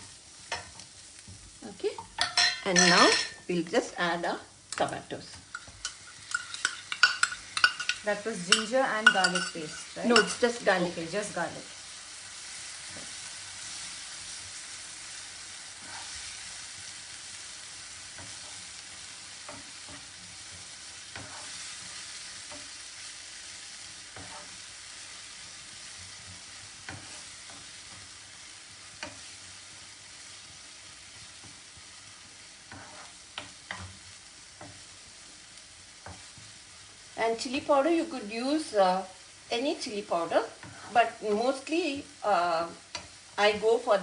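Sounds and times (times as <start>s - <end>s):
food sizzling in hot oil: 0.0s - 44.0s.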